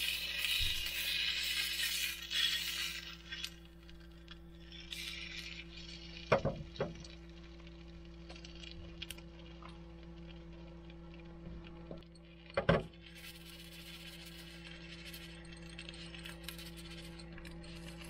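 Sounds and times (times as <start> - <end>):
egg sizzling in frying pan: 0.0 - 11.1, 12.1 - 18.0
steady low hum: 0.0 - 18.0.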